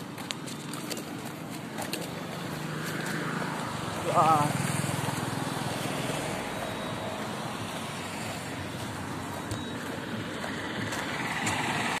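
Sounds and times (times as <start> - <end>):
passing vehicles: 0.0 - 12.0.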